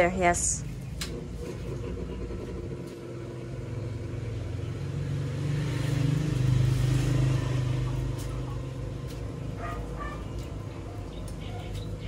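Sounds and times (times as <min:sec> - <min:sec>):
electric blower fan humming: 0:00.0 - 0:12.0.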